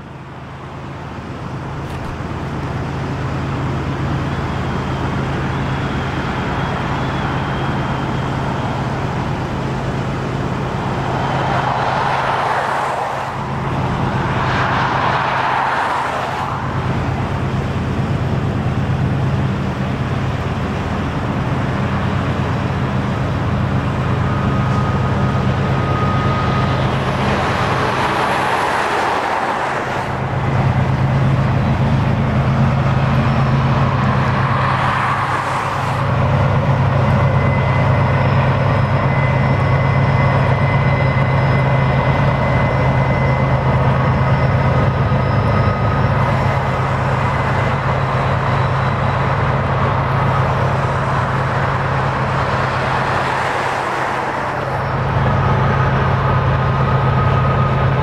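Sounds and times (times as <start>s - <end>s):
diesel locomotives droning: 0.0s - 58.0s.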